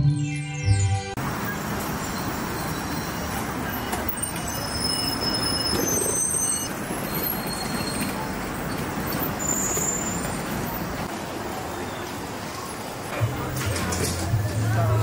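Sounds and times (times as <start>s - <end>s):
bus: 0.7s - 15.0s.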